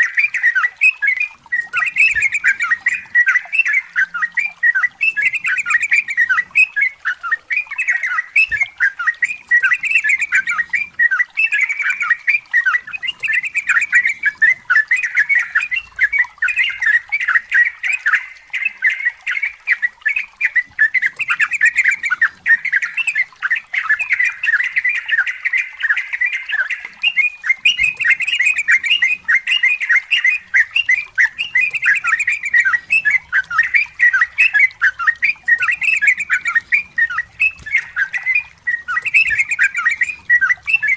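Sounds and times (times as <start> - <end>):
bird singing bubbling notes: 0.0 - 40.9.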